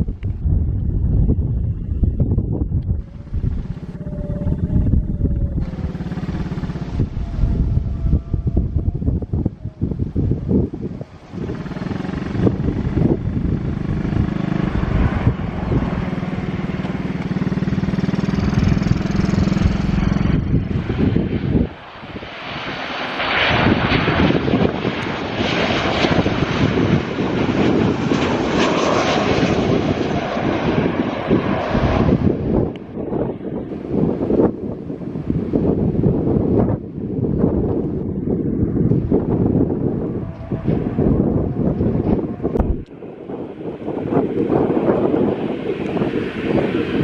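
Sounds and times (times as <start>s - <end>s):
airliner engines humming: 0.0s - 47.0s
wind buffeting microphone: 0.0s - 47.0s.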